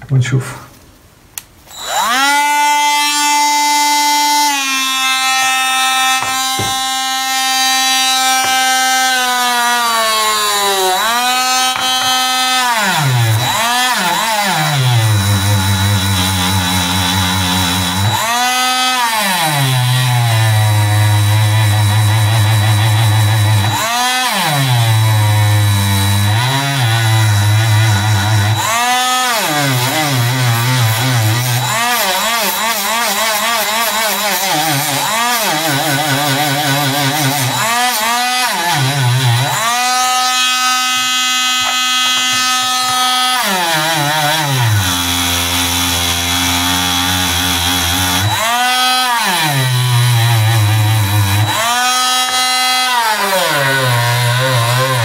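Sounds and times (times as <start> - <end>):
rotary tool motor whining: 1.7 - 55.0.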